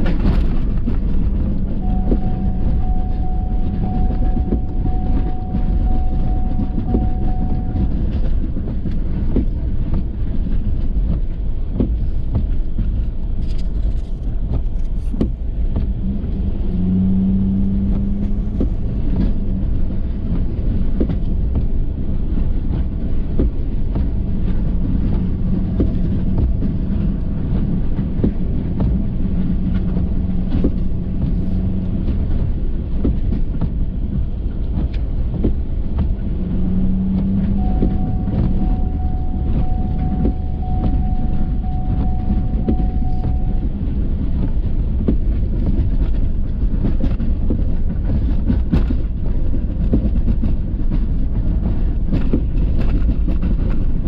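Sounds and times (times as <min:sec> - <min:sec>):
low hum: 0:00.0 - 0:54.0
truck engine rumble: 0:00.0 - 0:54.0.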